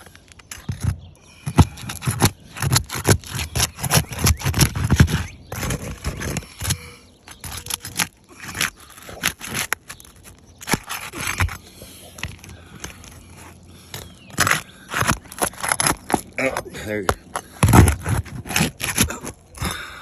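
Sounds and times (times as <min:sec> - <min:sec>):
metal tool scraping roof shingles: 0:00.0 - 0:19.8.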